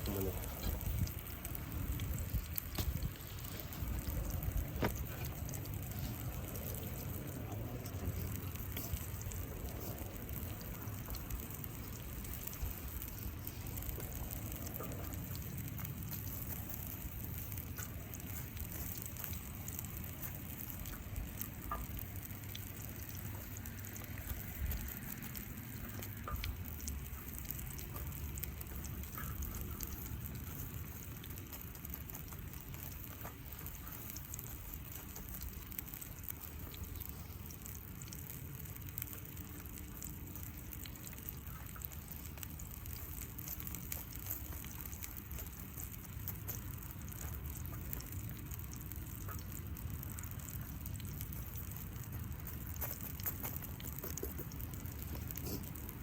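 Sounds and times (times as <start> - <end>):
campfire sizzling and crackling: 0.0 - 56.0
small pops and clicks: 0.0 - 56.0.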